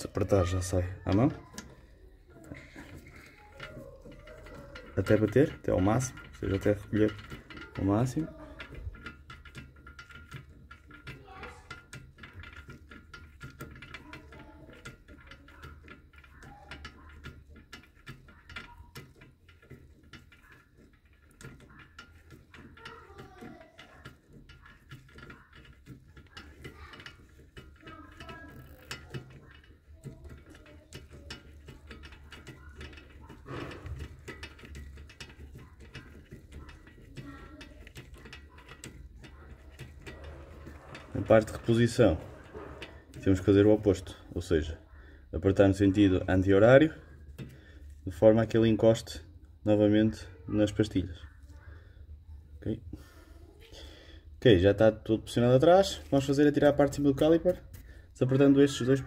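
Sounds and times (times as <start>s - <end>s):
rapid clicking of metal parts: 0.0s - 59.0s.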